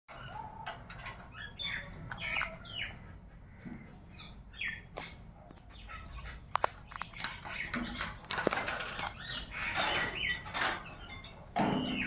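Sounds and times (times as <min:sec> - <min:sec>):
parakeets chirping: 0:00.1 - 0:03.1, 0:04.1 - 0:12.0.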